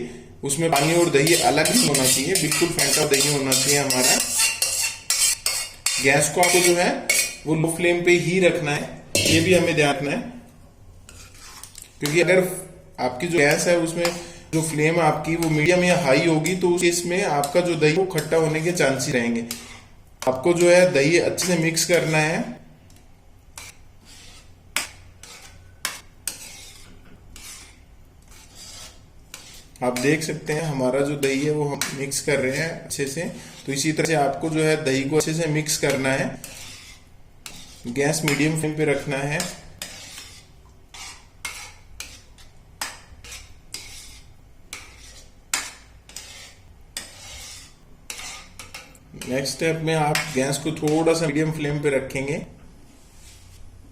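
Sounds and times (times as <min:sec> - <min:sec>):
utensil stirring in a pan: 0:00.4 - 0:51.8.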